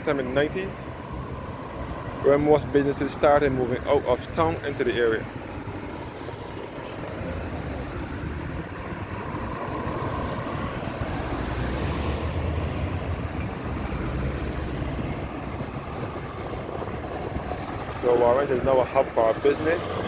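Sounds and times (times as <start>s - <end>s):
vehicles passing on road: 0.0s - 20.0s.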